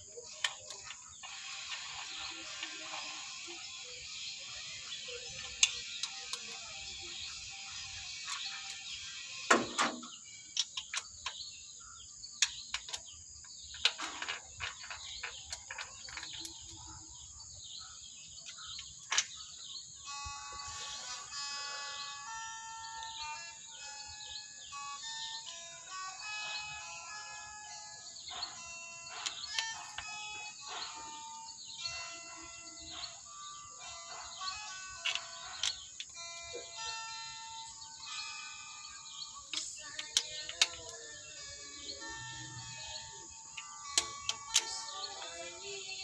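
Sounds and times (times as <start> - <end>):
background music of held notes: 0.0 - 12.6, 13.5 - 46.0
steady high-pitched hiss: 0.0 - 46.0.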